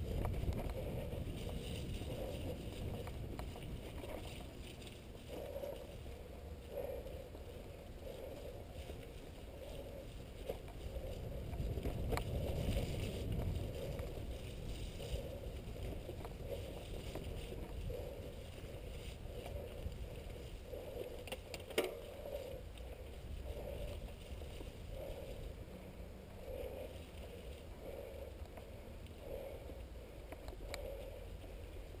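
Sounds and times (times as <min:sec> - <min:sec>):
bike clicks and rattles: 0:00.0 - 0:25.6, 0:26.6 - 0:32.0
bike tyres and wind rumble: 0:00.0 - 0:32.0.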